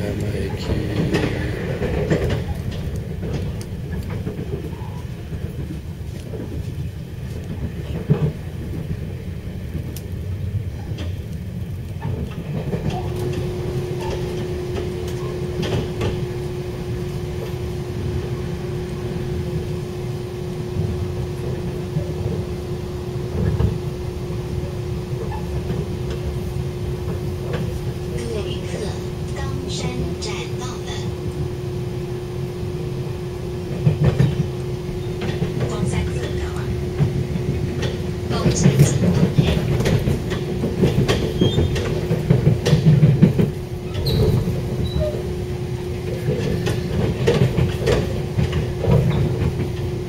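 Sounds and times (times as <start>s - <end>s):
train wheels rumbling on track: 0.0s - 50.0s.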